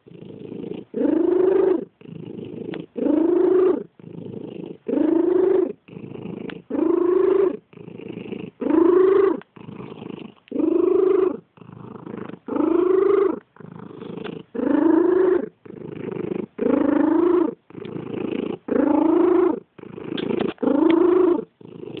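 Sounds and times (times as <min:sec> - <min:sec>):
cat purring with wheeze: 0:00.0 - 0:22.0.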